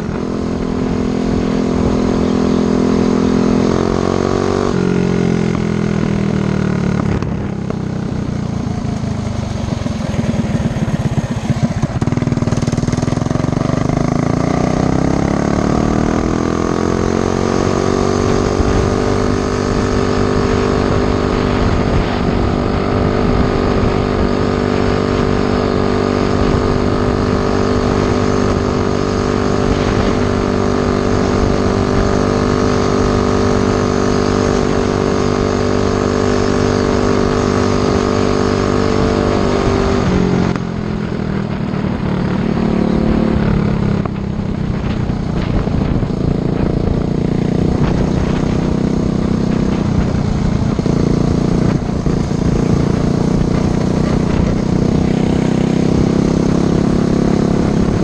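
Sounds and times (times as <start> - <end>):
mini bike engine revving: 0.0 - 58.0.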